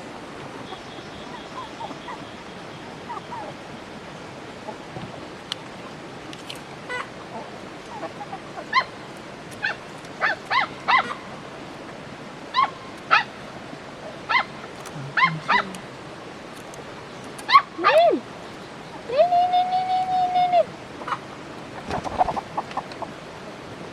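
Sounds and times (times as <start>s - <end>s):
background hiss: 0.0s - 23.9s.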